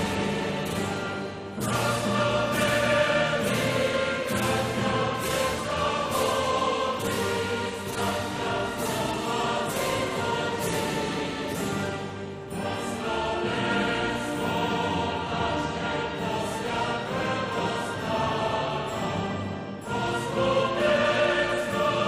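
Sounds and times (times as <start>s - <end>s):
choir-like voices: 0.0s - 22.0s.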